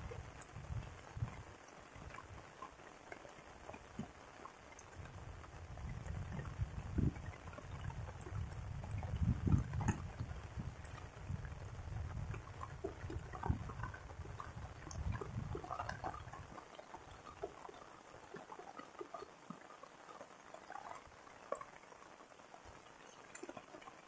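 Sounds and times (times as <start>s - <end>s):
raindrops pattering: 0.0s - 24.0s.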